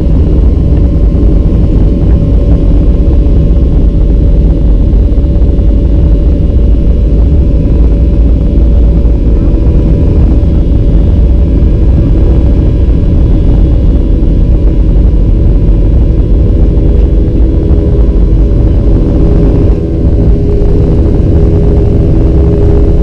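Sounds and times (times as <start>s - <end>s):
deep runway rumble: 0.0s - 23.0s
jet engines roaring: 0.0s - 23.0s.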